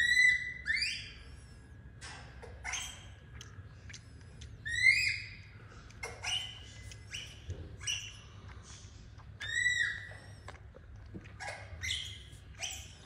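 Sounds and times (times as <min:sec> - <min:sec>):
infant monkey squeaky calls: 0:00.0 - 0:01.3, 0:02.4 - 0:08.8, 0:09.4 - 0:13.0.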